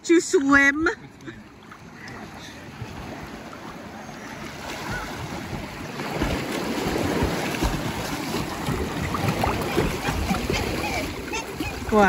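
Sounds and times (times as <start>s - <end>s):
small ocean waves: 0.0s - 12.0s
person swimming splashing: 1.1s - 12.0s.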